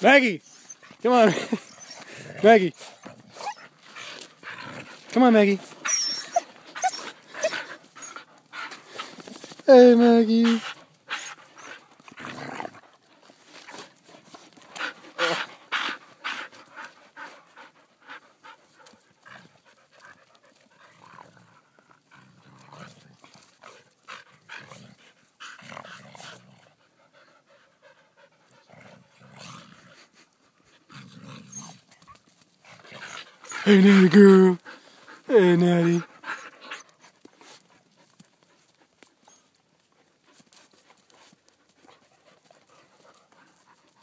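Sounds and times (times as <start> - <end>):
dog panting: 0.5 - 9.6, 10.4 - 29.2, 31.9 - 44.0.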